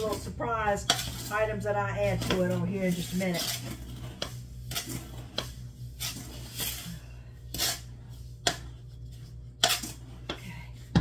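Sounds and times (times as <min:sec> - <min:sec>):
spoon scraping metal pot: 0:00.0 - 0:10.3
low steady hum: 0:00.0 - 0:11.0.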